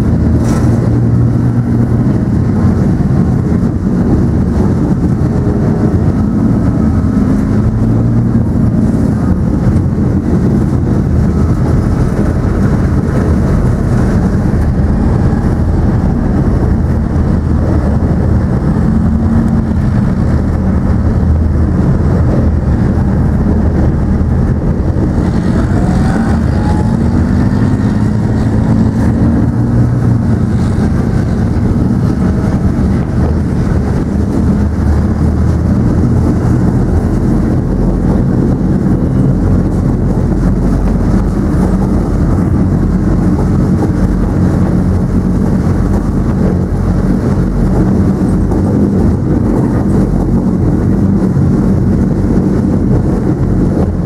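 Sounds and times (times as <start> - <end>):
tank diesel engine and tracks: 0.0 - 54.0.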